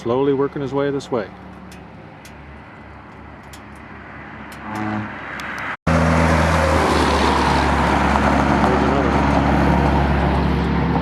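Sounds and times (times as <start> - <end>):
road noise: 0.0 - 11.0
car engine hum: 0.3 - 11.0.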